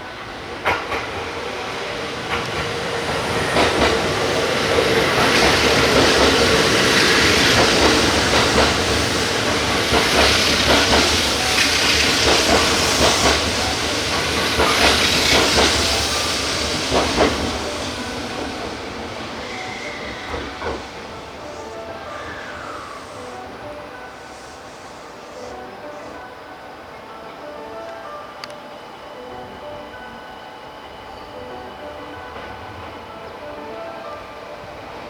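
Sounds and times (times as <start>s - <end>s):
electric train running noise: 0.0s - 35.0s.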